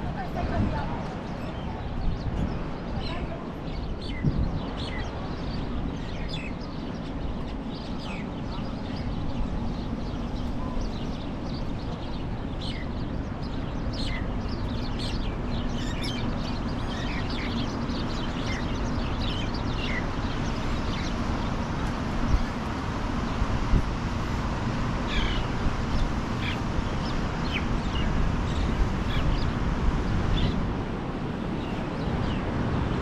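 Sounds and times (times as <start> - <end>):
birds calling: 0.0 - 32.6
steady outdoor noise: 0.0 - 33.0.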